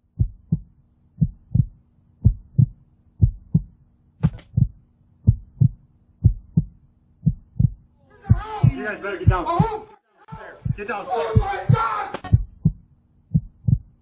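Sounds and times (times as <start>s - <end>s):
faint low hum: 0.0s - 14.0s
heartbeat thumps: 0.0s - 14.0s.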